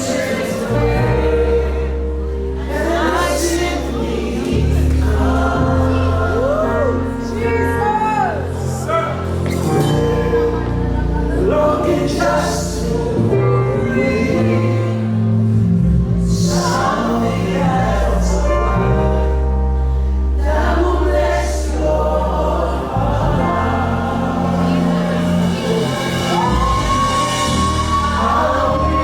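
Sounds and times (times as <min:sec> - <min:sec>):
group of voices singing: 0:00.0 - 0:29.0
instrumental backing with deep bass: 0:00.0 - 0:29.0.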